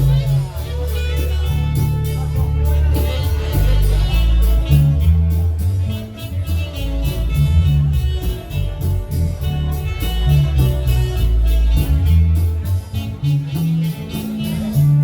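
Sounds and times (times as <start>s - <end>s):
bass notes: 0.0s - 15.0s
marimba band playing: 0.0s - 15.0s.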